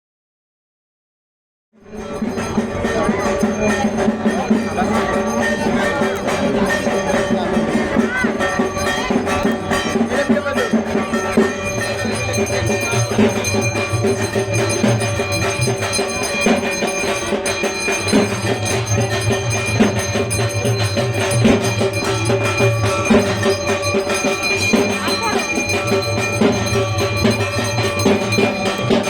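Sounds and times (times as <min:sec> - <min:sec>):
percussion strikes: 0:01.8 - 0:29.0
steady held musical tones: 0:01.9 - 0:29.0.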